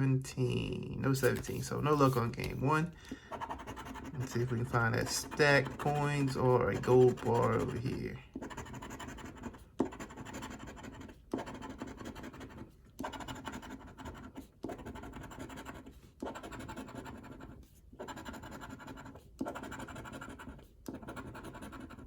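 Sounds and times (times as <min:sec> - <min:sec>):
scratch card being scraped: 0:01.2 - 0:22.0.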